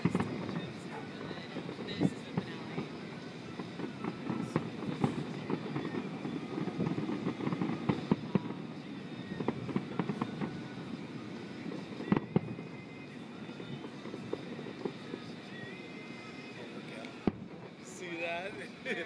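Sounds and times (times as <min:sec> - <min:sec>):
sharp firework bangs: 0:00.0 - 0:17.8
fireworks crackling pops: 0:00.0 - 0:19.0.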